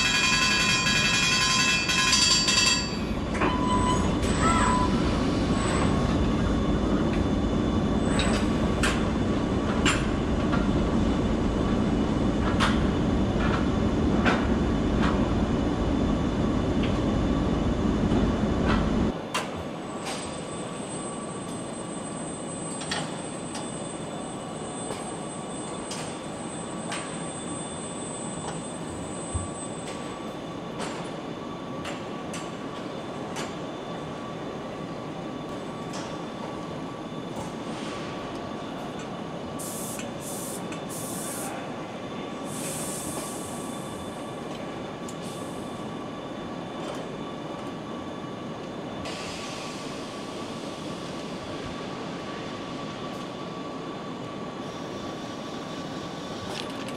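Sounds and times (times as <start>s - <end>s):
machinery hum: 0.0s - 56.9s.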